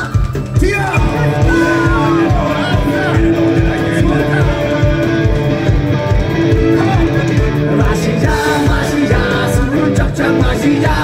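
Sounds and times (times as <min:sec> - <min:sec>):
bass: 0:00.0 - 0:11.0
electric guitar: 0:00.0 - 0:11.0
fast drum beat: 0:00.0 - 0:11.0.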